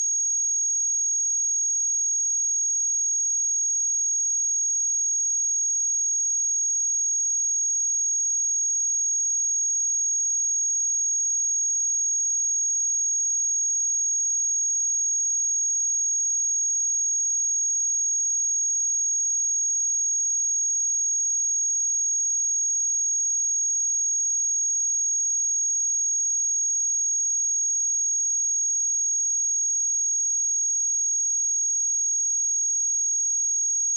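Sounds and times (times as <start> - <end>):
high-pitched sine-wave test tone: 0.0 - 33.9.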